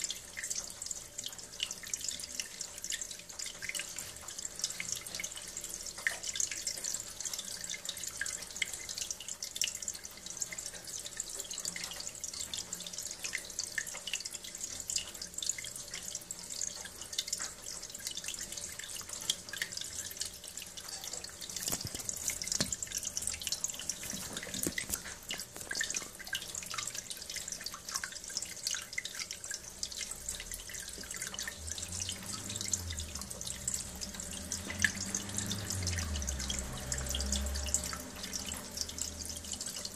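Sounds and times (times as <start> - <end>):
water pouring into plastic container: 0.0 - 39.9.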